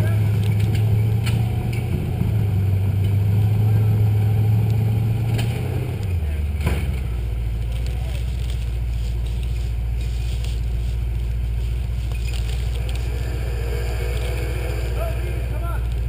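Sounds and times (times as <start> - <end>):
truck engine idling rumble: 0.0 - 16.0.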